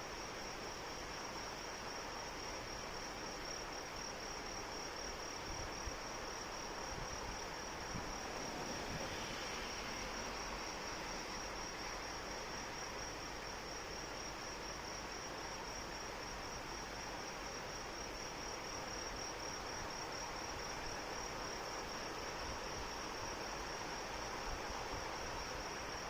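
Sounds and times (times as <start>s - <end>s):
rain hiss: 0.0s - 26.0s.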